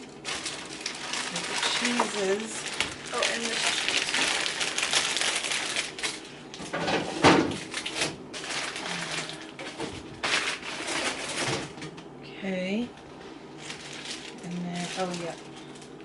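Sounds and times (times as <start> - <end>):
plastic packaging crinkling: 0.0 - 11.8, 13.5 - 16.0.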